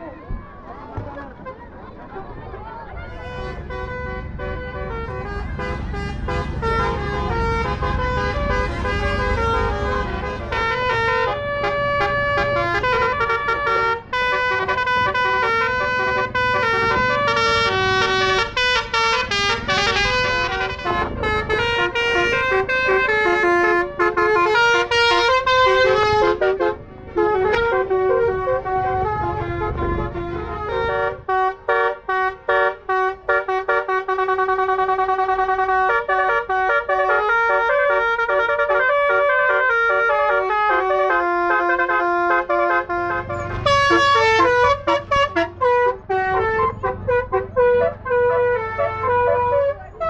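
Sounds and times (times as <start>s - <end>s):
bus horn playing melody: 2.9s - 50.0s.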